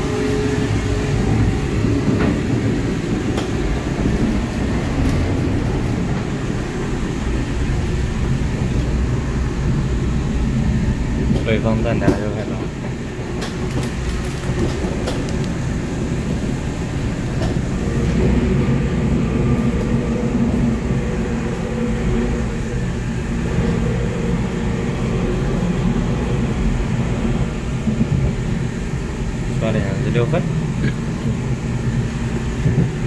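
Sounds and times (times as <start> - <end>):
train carriage rumble: 0.0 - 33.0.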